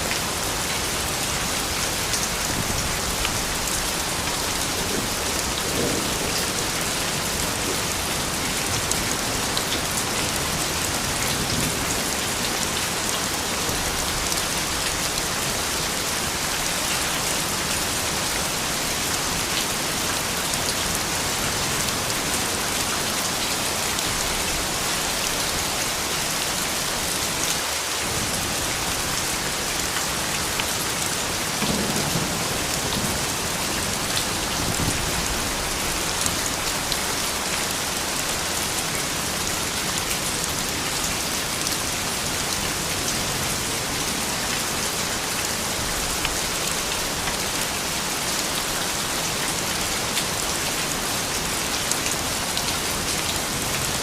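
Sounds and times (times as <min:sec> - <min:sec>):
soft rain falling: 0:00.0 - 0:54.0.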